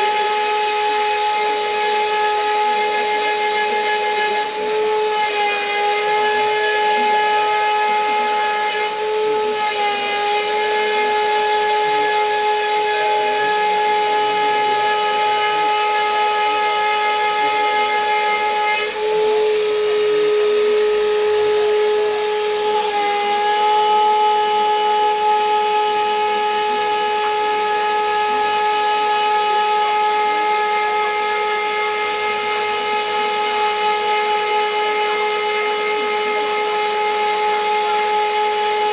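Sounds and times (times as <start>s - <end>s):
milling machine spindle whining: 0.0s - 38.9s.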